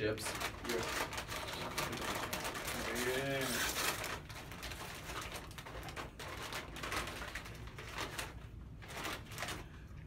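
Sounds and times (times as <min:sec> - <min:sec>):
foil chip bag crinkling: 0:00.0 - 0:10.0.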